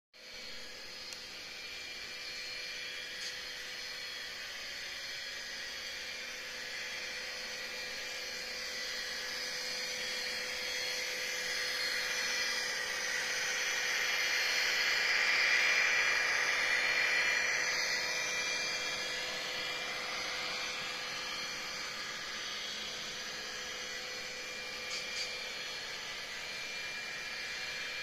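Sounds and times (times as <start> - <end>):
high turbocharger whine: 0.2 - 28.0
model locomotive diesel drone: 0.2 - 28.0.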